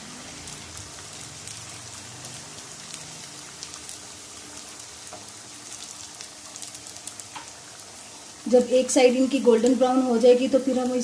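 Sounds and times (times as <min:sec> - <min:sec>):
kababs sizzling in hot oil: 0:00.0 - 0:11.0.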